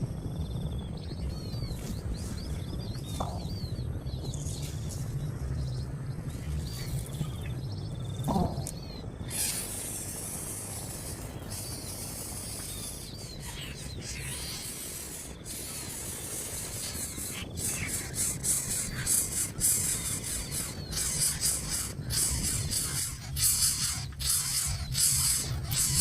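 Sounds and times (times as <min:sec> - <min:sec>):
steady hiss: 0:00.0 - 0:26.0
rapidly pulsing high hiss: 0:00.9 - 0:26.0.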